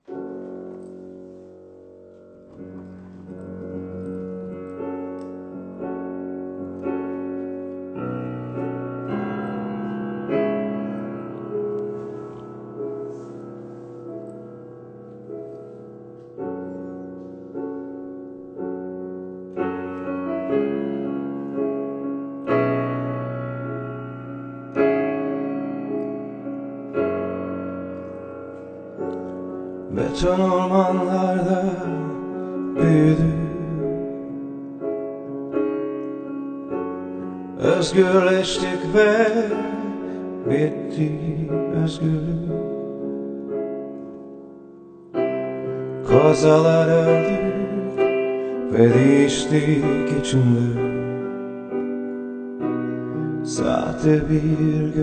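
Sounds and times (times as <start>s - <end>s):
slow solo piano chords: 0.0s - 55.0s.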